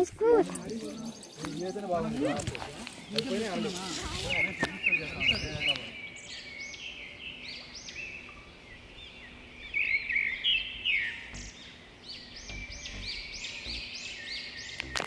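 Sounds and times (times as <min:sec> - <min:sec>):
birds singing: 0:00.0 - 0:15.0.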